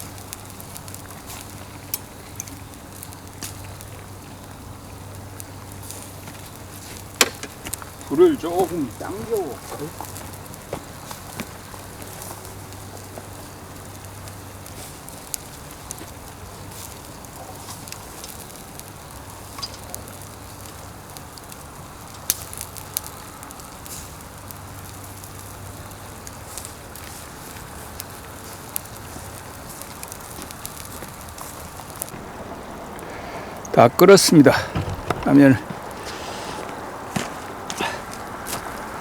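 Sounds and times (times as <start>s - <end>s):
pot of water boiling: 0.0s - 34.3s
wood fire crackling and popping: 0.0s - 39.0s.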